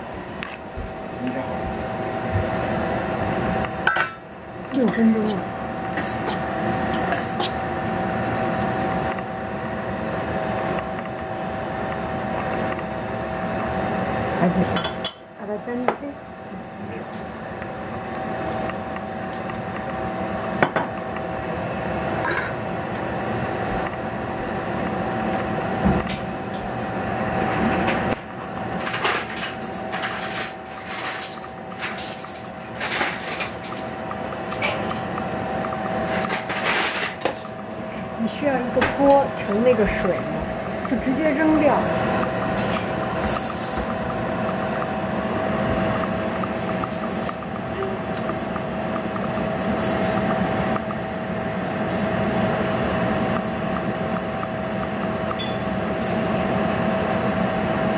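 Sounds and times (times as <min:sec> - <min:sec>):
gas stove hiss and hum: 0:00.0 - 0:57.9.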